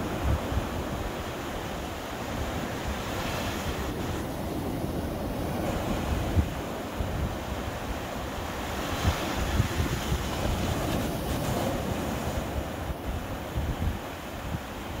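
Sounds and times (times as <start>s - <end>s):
small waves breaking on sand: 0.0s - 15.0s
wind buffeting microphone: 0.0s - 15.0s.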